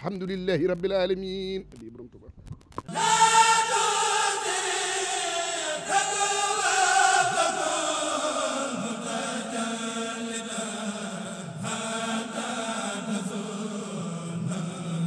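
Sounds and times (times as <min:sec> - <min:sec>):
voices chanting long notes: 0:02.9 - 0:15.0.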